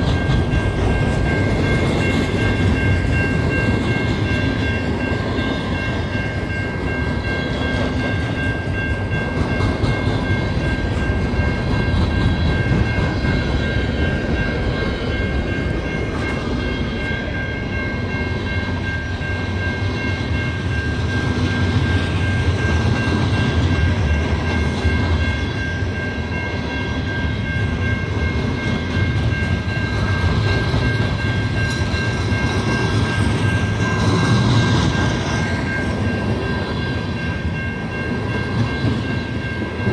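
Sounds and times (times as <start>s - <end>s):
rumble of wheels on rail: 0.0s - 39.9s.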